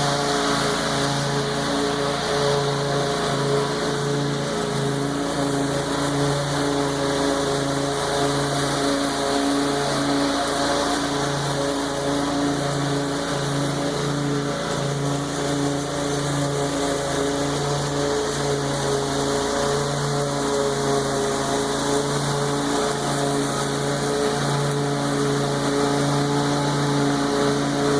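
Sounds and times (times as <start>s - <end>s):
lawn mower cutting grass: 0.0s - 27.9s.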